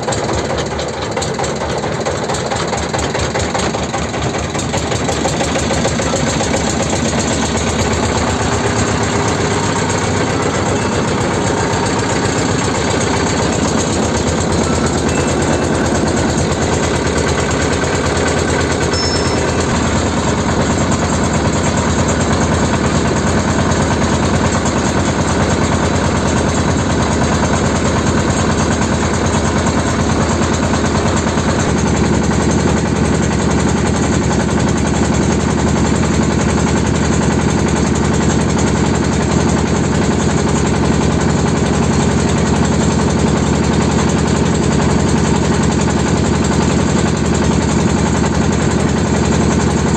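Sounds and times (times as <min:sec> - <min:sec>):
boat engine knocking: 0:00.0 - 0:49.9.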